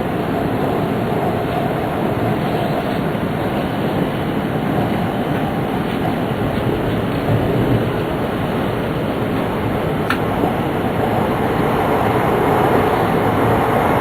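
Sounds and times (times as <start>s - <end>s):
train cabin running noise: 0.0s - 14.0s.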